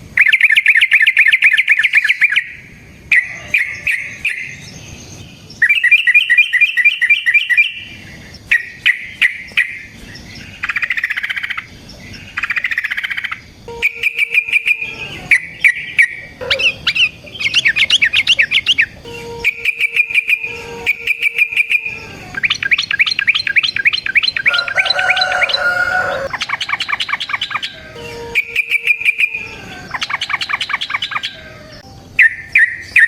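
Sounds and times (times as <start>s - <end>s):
bird singing in chattering bursts: 0.1s - 33.0s.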